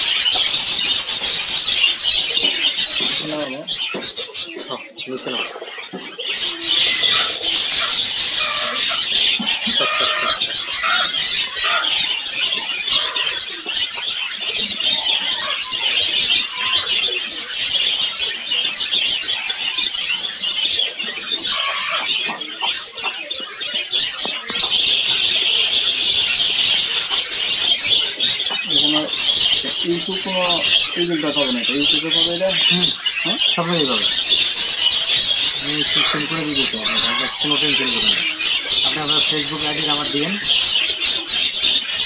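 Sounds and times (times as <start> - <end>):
caged birds chirping and twittering: 0.0 - 42.0.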